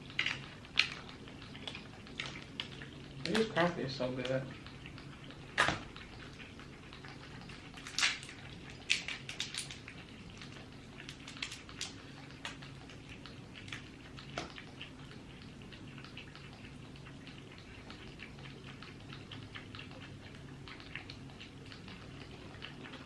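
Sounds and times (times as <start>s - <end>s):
chewing mouth clicks and smacks: 0.0s - 23.0s.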